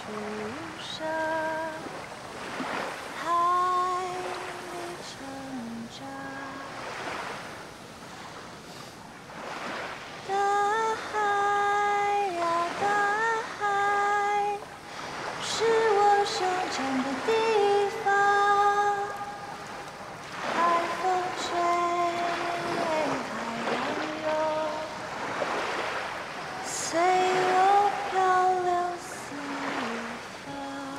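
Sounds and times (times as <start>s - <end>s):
woman singing slow song: 0.0s - 7.5s, 10.2s - 30.9s
ocean waves on shore: 0.0s - 30.9s.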